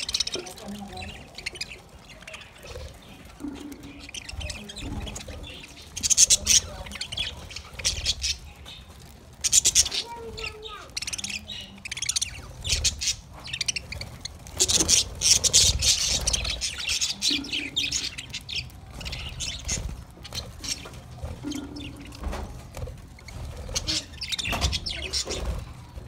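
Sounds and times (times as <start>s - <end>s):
budgerigars chattering: 0.0s - 25.7s.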